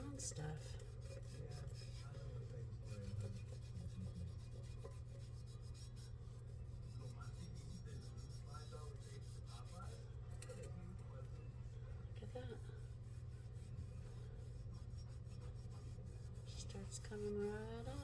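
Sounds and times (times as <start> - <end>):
sponge scrubbing a pot: 0.0 - 10.1, 12.6 - 18.0.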